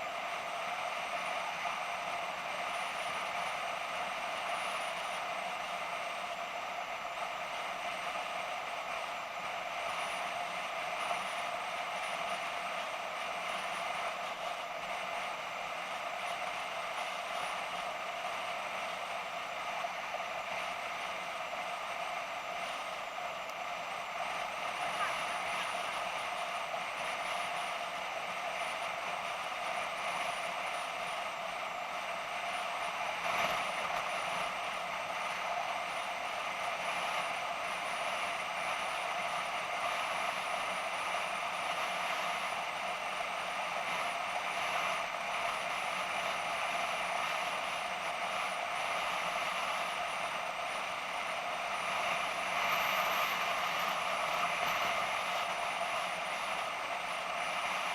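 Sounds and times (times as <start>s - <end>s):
faint high whine: 0.0s - 57.9s.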